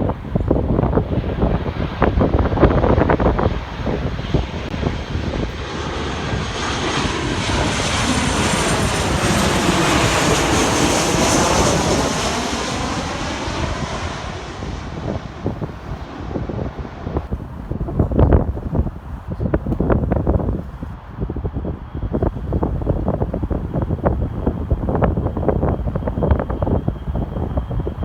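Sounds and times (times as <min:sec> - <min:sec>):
airliner passing overhead: 0:00.0 - 0:28.0
wind buffeting microphone: 0:00.0 - 0:28.0.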